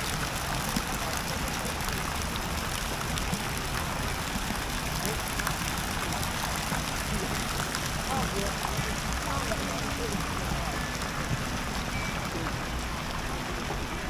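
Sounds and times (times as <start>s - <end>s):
street hum and hiss: 0.0s - 14.0s
faint voices: 0.3s - 14.0s.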